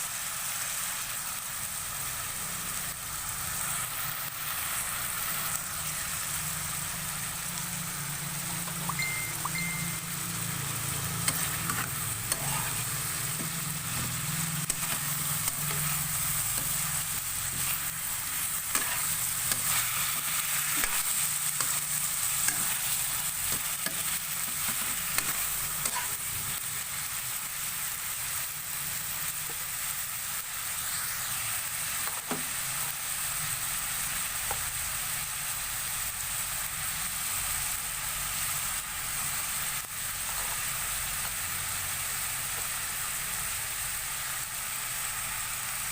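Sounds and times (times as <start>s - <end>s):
chicken sizzling in a pan: 0.0s - 45.9s.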